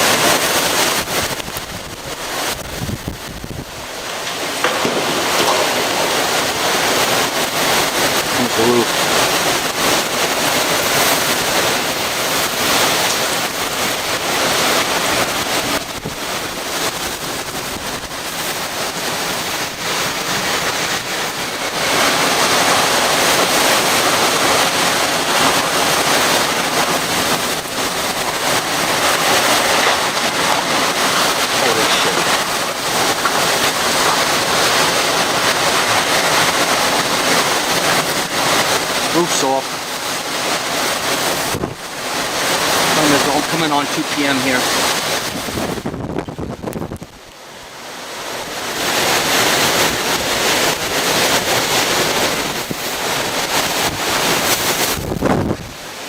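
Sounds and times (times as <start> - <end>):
hurricane wind and rain roar: 0.0 - 56.0.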